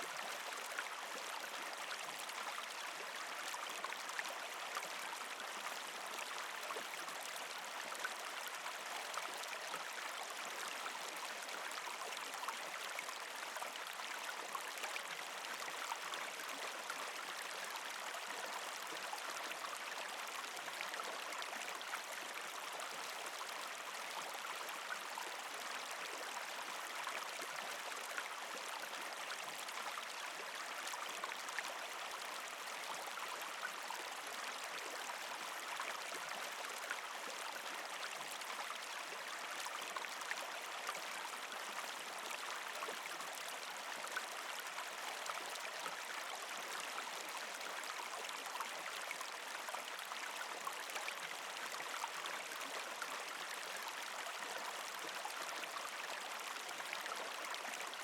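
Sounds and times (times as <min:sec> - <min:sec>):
creek water flowing and gurgling: 0:00.0 - 0:58.0.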